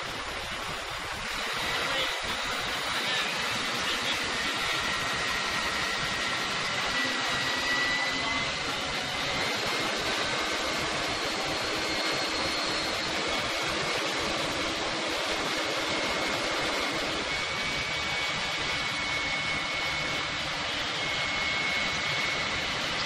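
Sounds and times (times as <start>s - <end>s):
crane mechanical noise: 0.0s - 23.0s
faint high whine: 0.0s - 23.0s.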